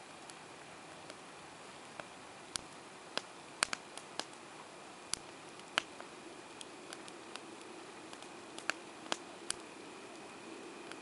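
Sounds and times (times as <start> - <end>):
campfire crackling and popping: 0.0 - 11.0
faint steady hiss: 0.0 - 11.0.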